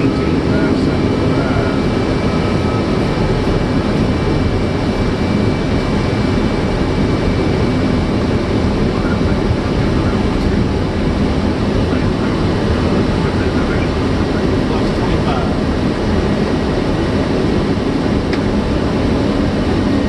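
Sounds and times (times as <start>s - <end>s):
jet engine and airflow rumble: 0.0s - 20.0s.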